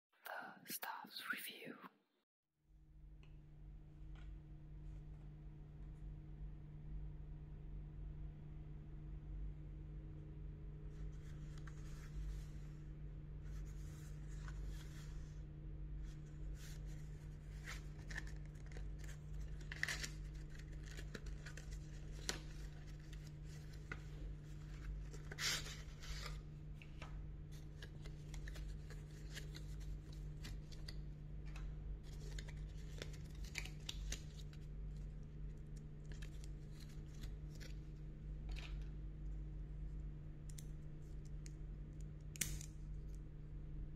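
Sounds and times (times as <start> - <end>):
steady low hum: 2.8 - 43.9.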